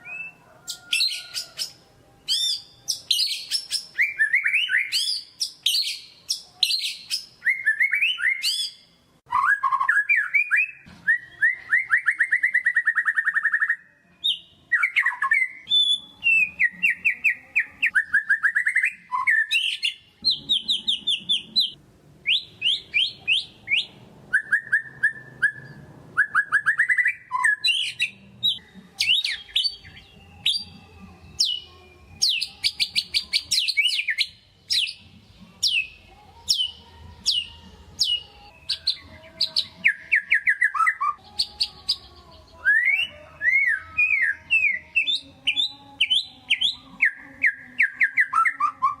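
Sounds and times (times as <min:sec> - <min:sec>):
songbird singing trills and whistles: 0:00.0 - 0:49.0.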